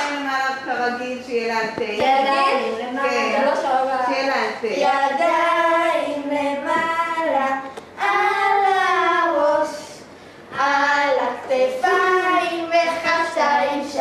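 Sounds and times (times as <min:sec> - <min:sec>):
girls singing unaccompanied: 0:02.0 - 0:14.0.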